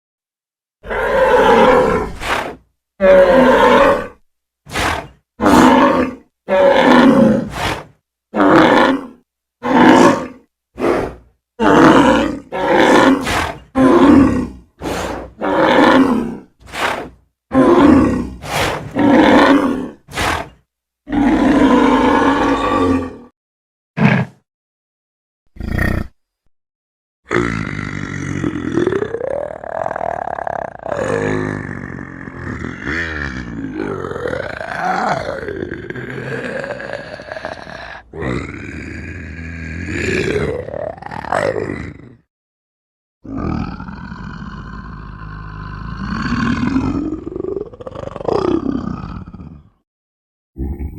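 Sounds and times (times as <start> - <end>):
creature roaring and grunting: 0.8 - 23.4, 25.6 - 26.2, 27.3 - 42.3, 43.2 - 49.8.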